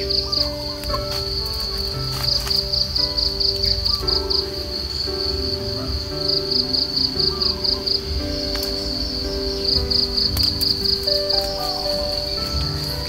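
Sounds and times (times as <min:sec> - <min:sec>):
insect chirping: 0:00.0 - 0:13.0
soft background music: 0:00.0 - 0:13.0.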